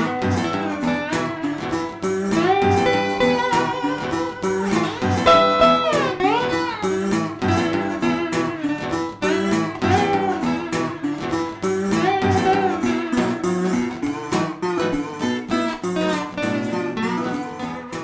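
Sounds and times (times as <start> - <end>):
blues-rock song with guitar: 0.0 - 18.0.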